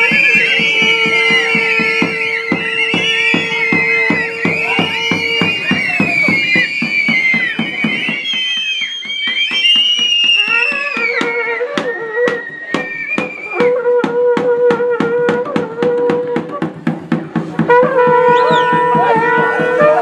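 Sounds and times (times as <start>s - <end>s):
drums beating: 0.0s - 20.0s
wind instruments holding long notes: 0.0s - 20.0s.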